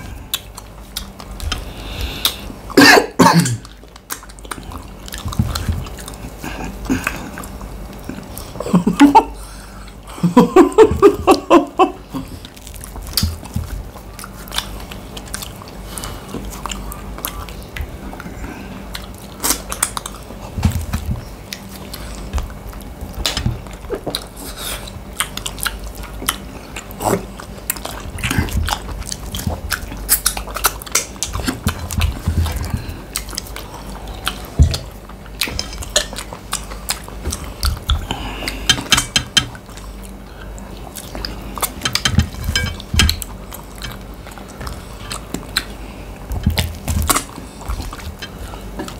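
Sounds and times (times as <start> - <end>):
people chewing food: 0.0 - 48.9.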